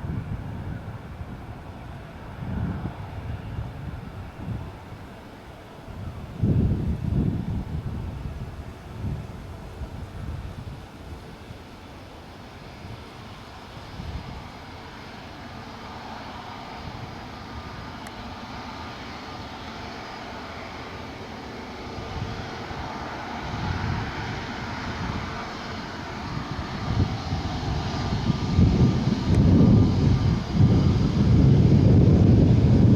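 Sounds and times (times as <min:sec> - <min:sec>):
jet engines at takeoff: 0:00.0 - 0:32.9.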